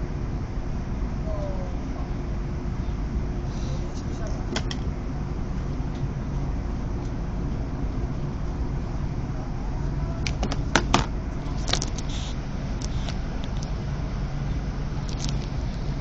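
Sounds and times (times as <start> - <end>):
train rumble with hum: 0.0 - 16.0.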